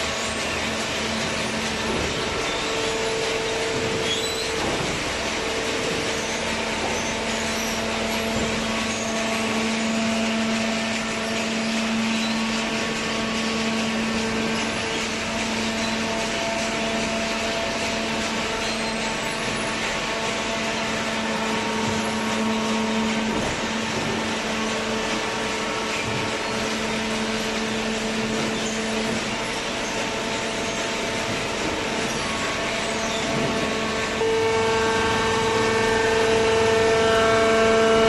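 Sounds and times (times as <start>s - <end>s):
hydraulic baler humming: 0.0s - 38.0s.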